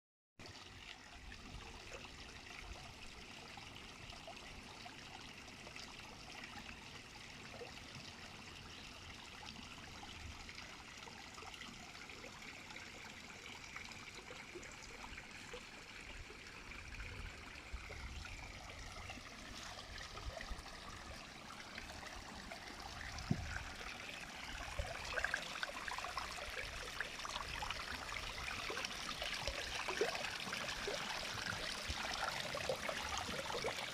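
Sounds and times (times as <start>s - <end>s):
water trickling and splashing: 0.4s - 33.9s.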